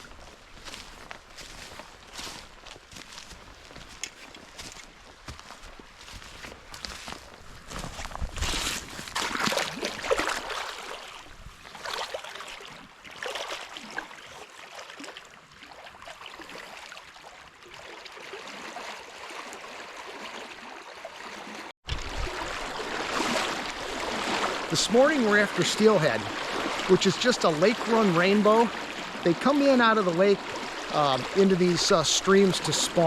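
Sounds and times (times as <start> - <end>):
stream water running: 0.0 - 33.0.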